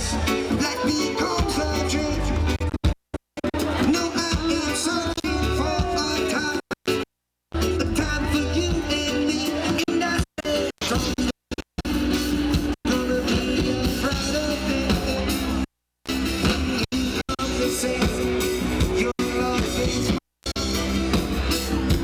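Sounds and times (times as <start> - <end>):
reggae band playing: 0.0 - 2.8, 3.4 - 7.0, 7.6 - 22.0.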